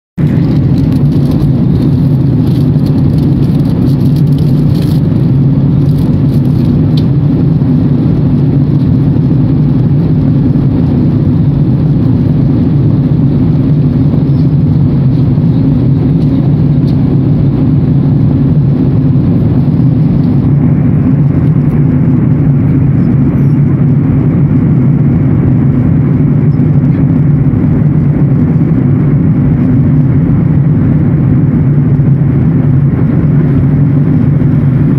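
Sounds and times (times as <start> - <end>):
jet airliner cabin drone: 0.2 - 34.9.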